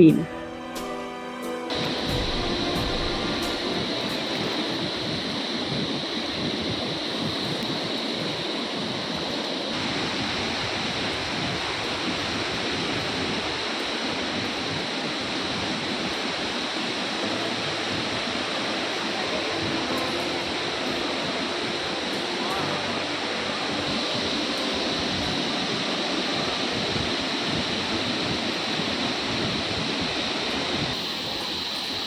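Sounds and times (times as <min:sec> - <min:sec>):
waterfall rushing: 0:01.7 - 0:32.0.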